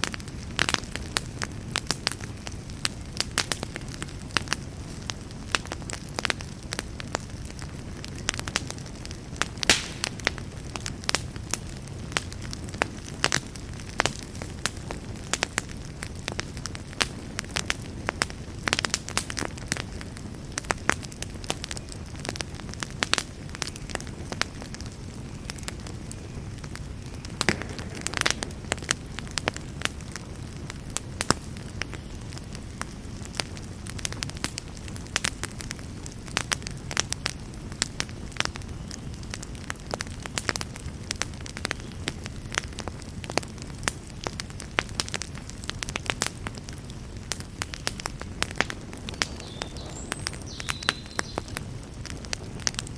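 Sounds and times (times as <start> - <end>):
burning wood crackling and popping: 0.0 - 52.9
campfire flames rumbling: 0.0 - 52.9.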